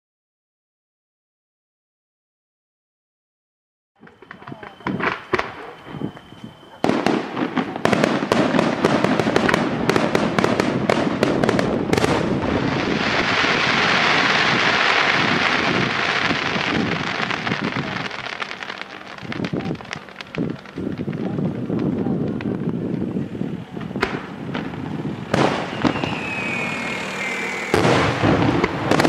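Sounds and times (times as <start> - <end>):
fireworks bangs: 4.0 - 29.0
fireworks crackling hiss: 4.0 - 29.0.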